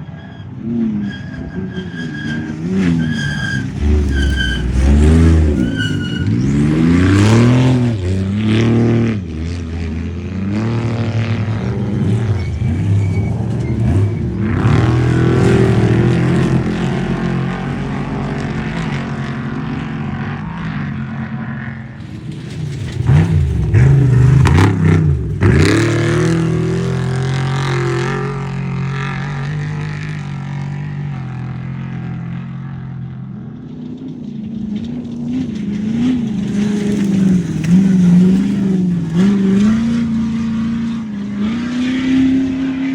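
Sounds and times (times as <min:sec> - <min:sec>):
race vehicle engines revving: 0:00.0 - 0:42.9.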